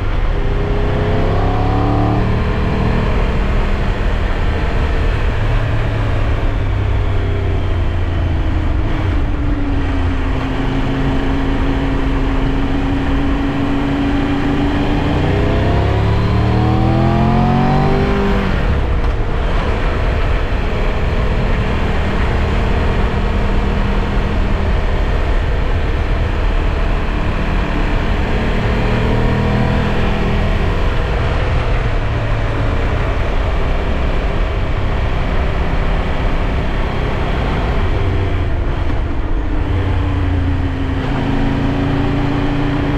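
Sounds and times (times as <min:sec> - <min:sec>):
heavy wind noise: 0:00.0 - 0:42.9
motorcycle engine while riding: 0:00.0 - 0:42.9
road rumble: 0:00.0 - 0:42.9.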